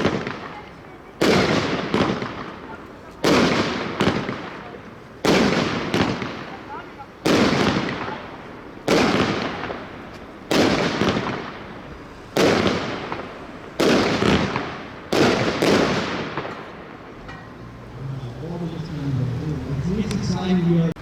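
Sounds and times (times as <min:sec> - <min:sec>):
firework bangs: 0:00.0 - 0:17.9.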